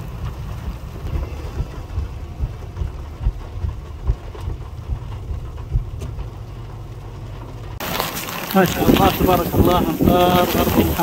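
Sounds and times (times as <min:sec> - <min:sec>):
heavy rain falling: 0:00.0 - 0:11.0
wind buffeting microphone: 0:00.0 - 0:11.0.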